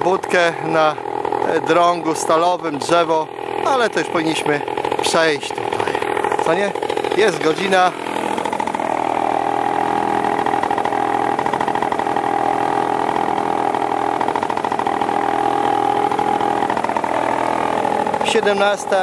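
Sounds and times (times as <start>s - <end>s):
two-stroke engine idling: 0.0s - 19.0s.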